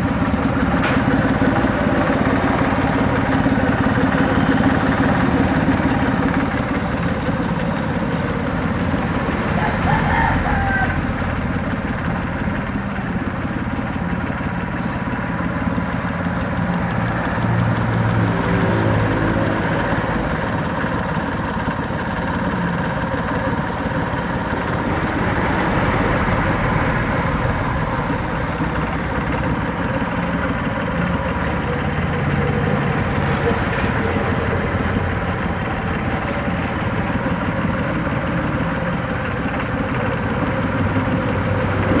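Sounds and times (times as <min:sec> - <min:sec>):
engine idling with ticking: 0:00.0 - 0:42.0.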